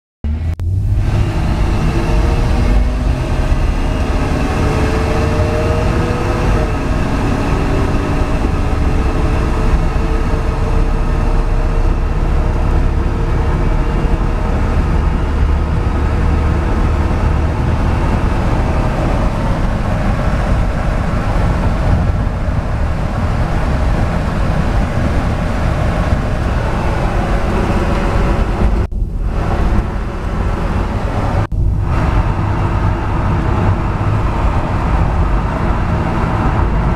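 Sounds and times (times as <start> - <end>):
low road rumble: 0.2 - 36.9
truck engine drone: 0.2 - 36.9.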